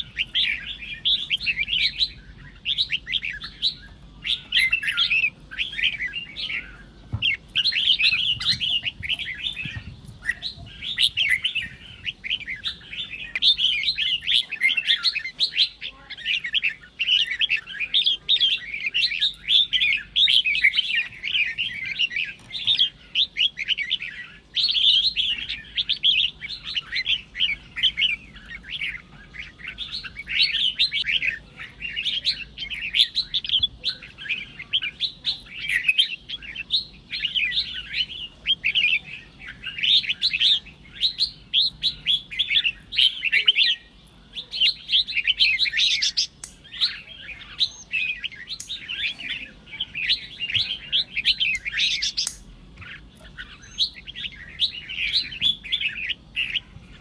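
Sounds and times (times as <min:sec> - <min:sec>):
birds singing chattering phrases: 0:00.0 - 0:57.0.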